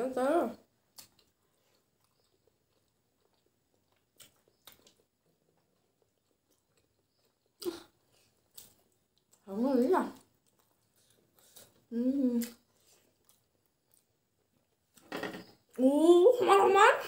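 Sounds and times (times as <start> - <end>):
people chewing: 0.8 - 15.0.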